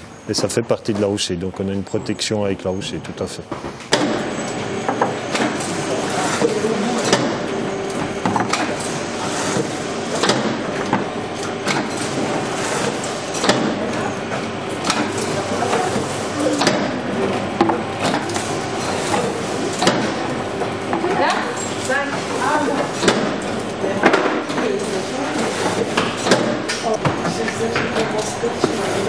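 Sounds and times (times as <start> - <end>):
packaging machine humming: 3.8 - 29.0
machine clacking: 3.9 - 14.1, 14.8 - 29.0.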